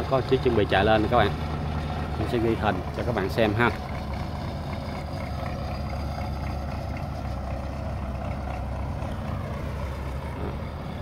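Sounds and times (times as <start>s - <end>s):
tractor engine running at low revs: 0.0s - 11.0s.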